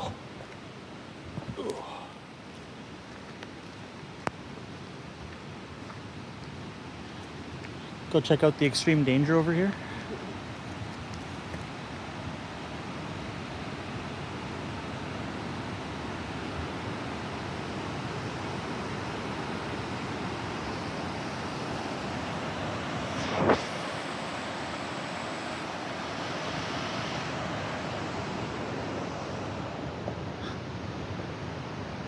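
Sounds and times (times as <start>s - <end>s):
fast creek water rushing: 0.0s - 32.0s.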